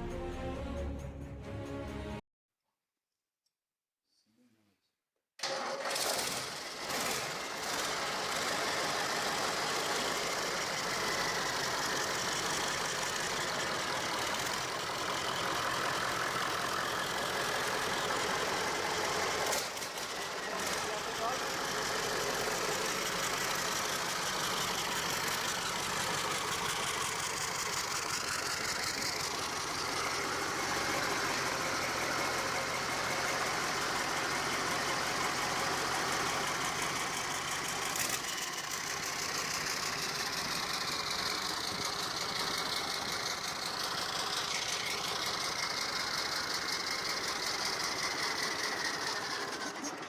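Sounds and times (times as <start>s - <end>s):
diesel engine running: 8.1s - 19.5s, 20.3s - 50.0s.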